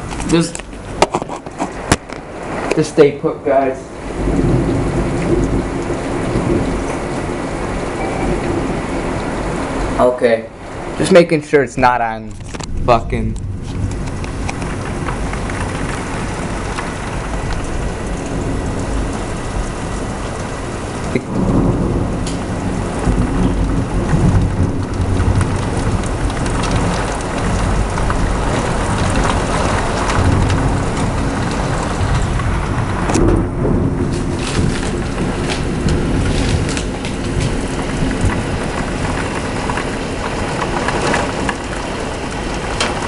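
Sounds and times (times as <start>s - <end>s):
heavy rain falling: 0.0s - 43.0s
thunder clap: 0.0s - 43.0s
thunder rumbling: 0.0s - 43.0s.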